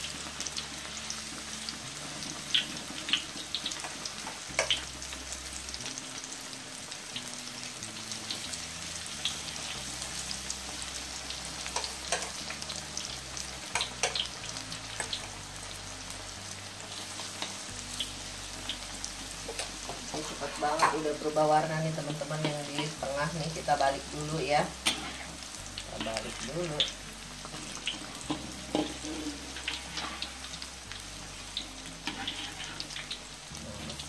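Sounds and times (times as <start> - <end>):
batter sizzling in hot oil: 0.0 - 34.0.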